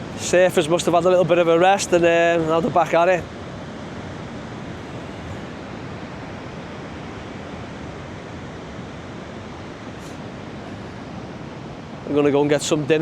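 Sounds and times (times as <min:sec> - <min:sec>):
ocean waves crashing on shore: 0:00.0 - 0:13.0.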